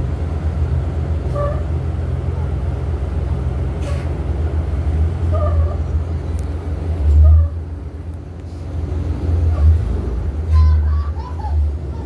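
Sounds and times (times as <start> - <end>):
buses idling: 0.0 - 12.0.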